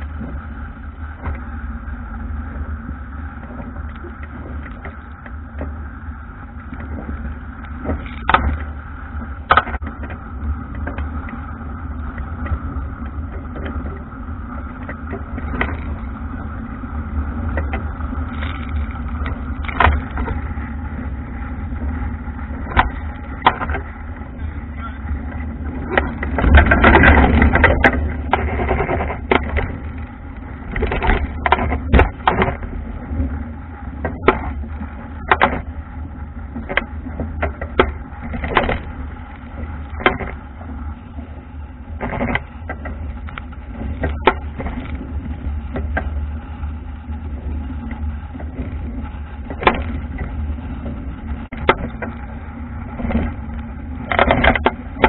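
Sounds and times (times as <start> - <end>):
water rushing along a hull: 0.0 - 55.0
waves slapping a wooden bow: 0.0 - 55.0
wind buffeting microphone: 0.0 - 55.0.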